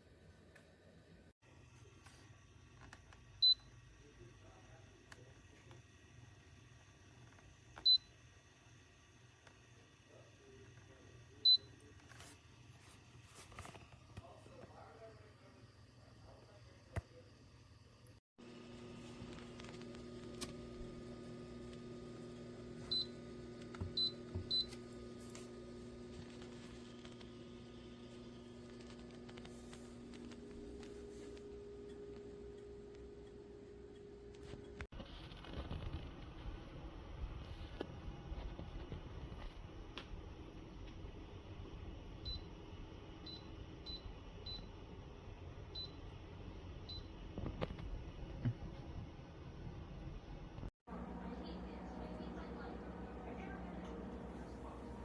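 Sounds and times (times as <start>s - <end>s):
humidifier low hum: 1.6s - 55.0s.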